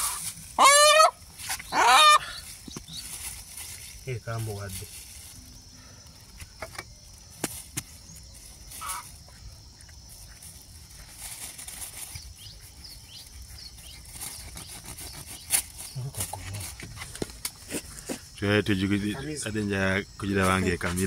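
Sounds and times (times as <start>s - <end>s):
high insect chirping: 0.0s - 21.0s.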